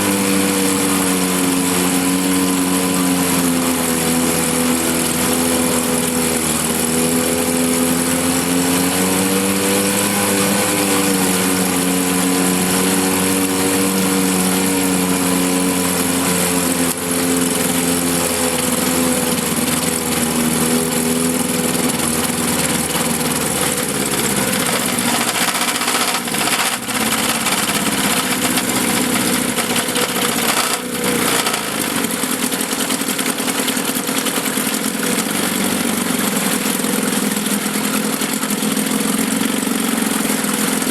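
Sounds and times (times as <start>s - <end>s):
two-stroke outboard motor running: 0.0s - 40.9s.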